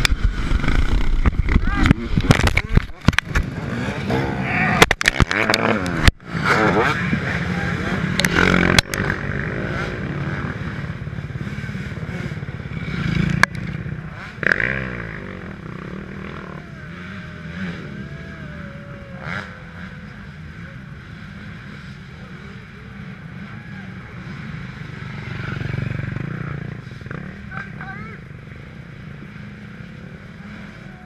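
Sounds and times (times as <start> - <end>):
motocross engines droning: 0.0 - 31.0.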